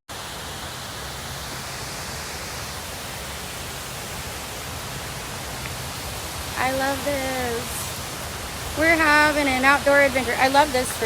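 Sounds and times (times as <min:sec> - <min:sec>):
waterfall roaring: 0:00.1 - 0:11.0.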